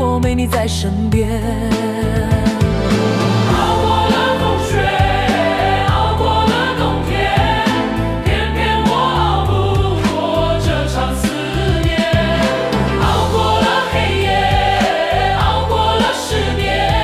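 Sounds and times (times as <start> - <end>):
backing track with bass and drums: 0.0 - 17.0
choir singing a pop ballad: 1.2 - 17.0.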